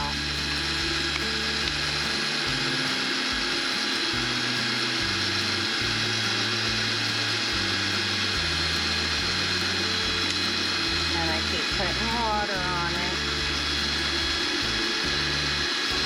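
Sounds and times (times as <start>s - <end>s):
electric drill grinding into ceramic: 0.0s - 16.0s.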